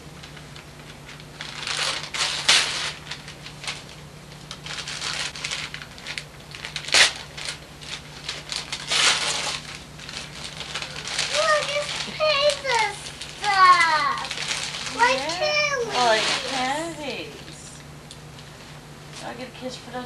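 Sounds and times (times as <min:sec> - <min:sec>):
steady low hum: 0:00.0 - 0:20.0
wrapping paper crinkling and tearing: 0:00.2 - 0:17.5.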